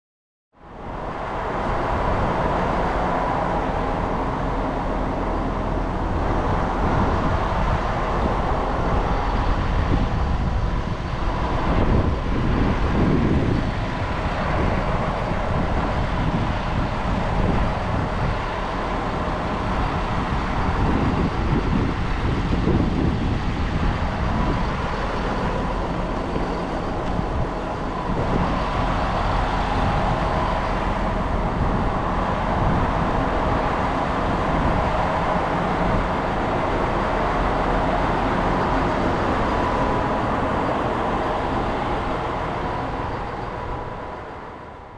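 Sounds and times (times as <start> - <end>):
railcar rumble from inside: 0.6 - 44.9.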